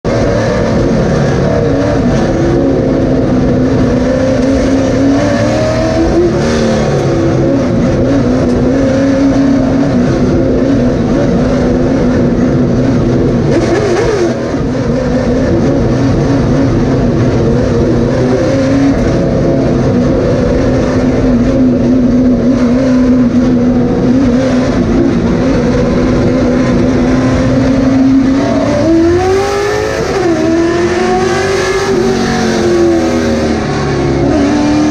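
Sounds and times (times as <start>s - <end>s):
race car engine from cockpit: 0.0s - 34.9s.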